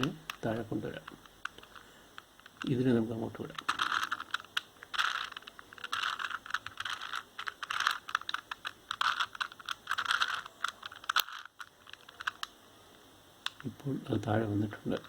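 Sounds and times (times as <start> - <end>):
puzzle cube clicking and scraping: 0.0 - 12.6, 13.4 - 15.0.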